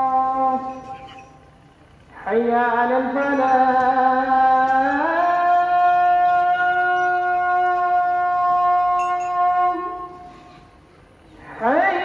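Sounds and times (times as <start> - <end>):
man singing call to prayer: 0.0 - 1.3, 2.1 - 10.3, 11.4 - 12.0.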